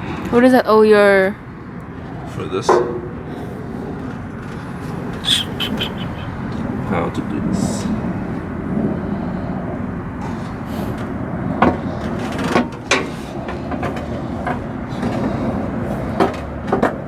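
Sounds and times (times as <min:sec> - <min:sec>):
low rumble: 0:00.0 - 0:16.2.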